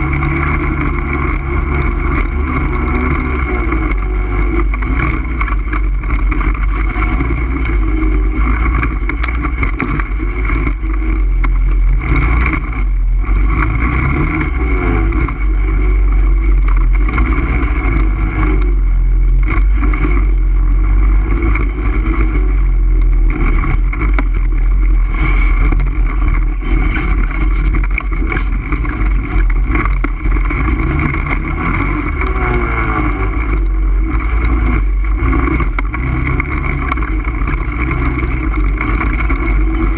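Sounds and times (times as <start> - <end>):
atv engine running: 0.0 - 39.9
wind rumble on microphone: 0.0 - 39.9.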